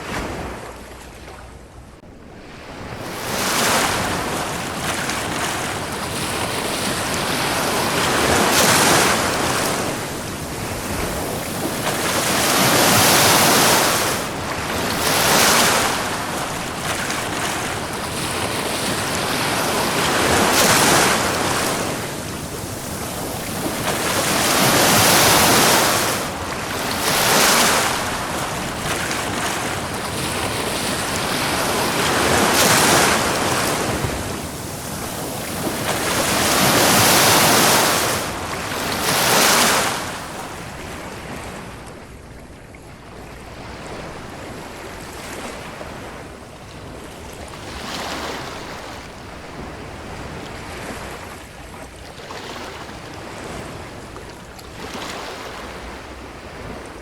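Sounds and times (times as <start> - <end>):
ocean waves breaking on a beach: 0.0 - 57.0.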